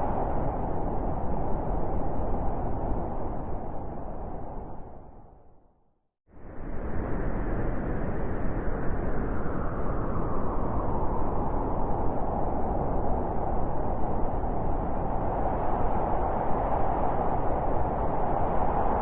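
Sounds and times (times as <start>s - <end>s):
howling blizzard wind: 0.0s - 5.7s, 6.3s - 19.0s.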